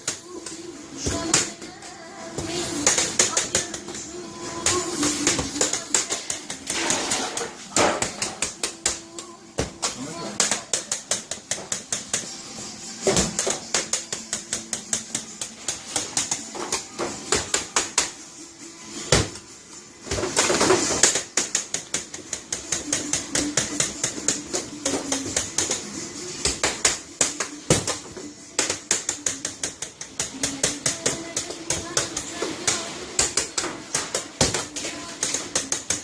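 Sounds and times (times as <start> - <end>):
background music: 0.0 - 36.0.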